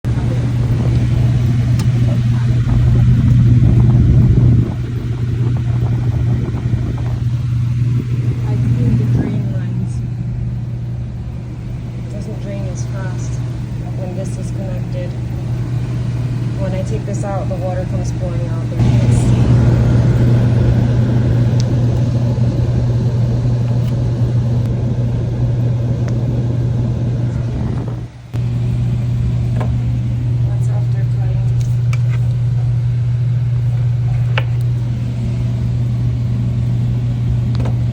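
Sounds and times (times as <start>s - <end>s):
air conditioner humming: 0.0s - 37.9s.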